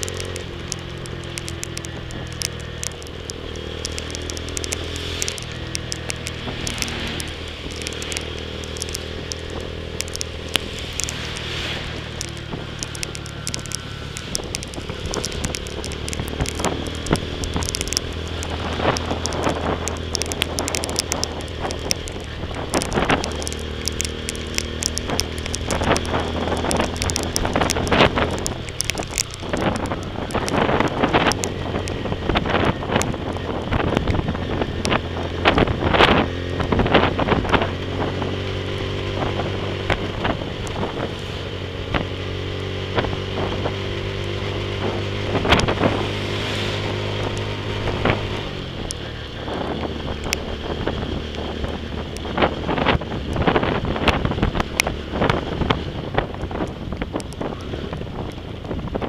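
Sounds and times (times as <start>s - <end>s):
motorcycle engine cruising: 0.0s - 59.0s
raindrops tapping camera: 0.0s - 59.0s
wind on microphone: 0.0s - 59.0s.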